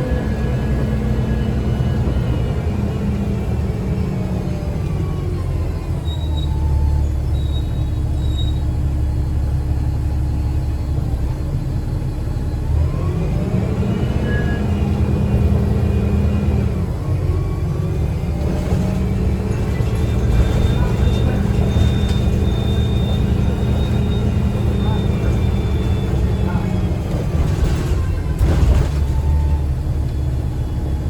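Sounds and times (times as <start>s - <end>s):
bus engine and road rumble: 0.0s - 31.0s.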